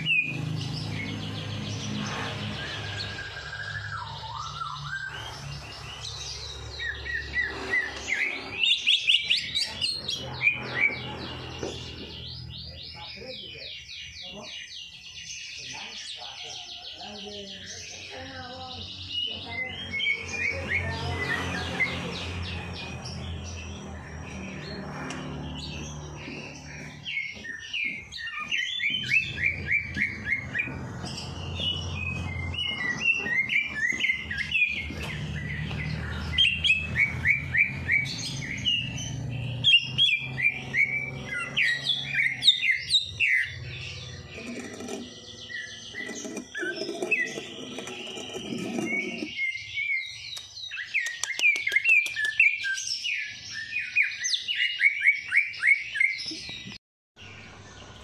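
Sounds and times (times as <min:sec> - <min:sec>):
caged songbirds chirping: 0:00.0 - 0:58.0.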